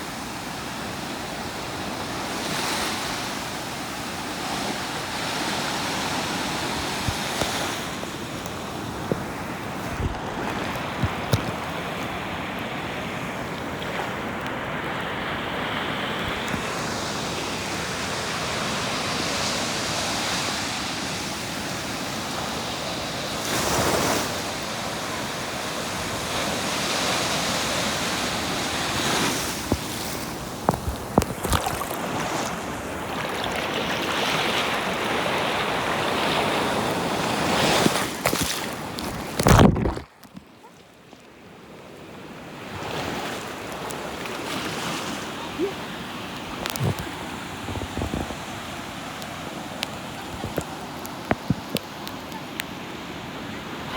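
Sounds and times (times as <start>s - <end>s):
surf washing on shore: 0.0s - 53.9s.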